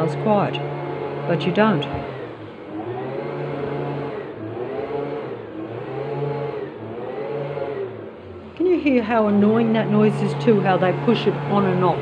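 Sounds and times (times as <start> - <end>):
engine revving up and down: 0.0 - 12.0.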